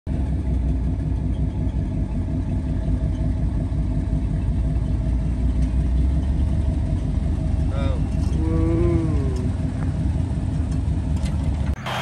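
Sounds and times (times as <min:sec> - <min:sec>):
pickup engine idling: 0:00.1 - 0:12.0.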